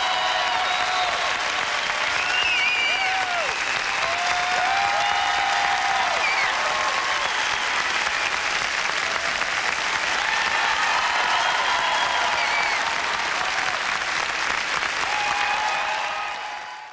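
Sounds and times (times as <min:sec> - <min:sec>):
audience applauding: 0:00.0 - 0:16.9
scattered cheers: 0:00.0 - 0:16.9.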